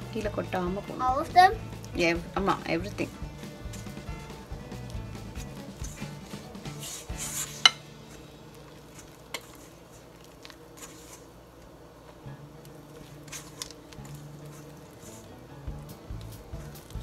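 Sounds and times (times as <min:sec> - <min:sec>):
spoon stirring in mixing bowl: 0:02.9 - 0:17.0.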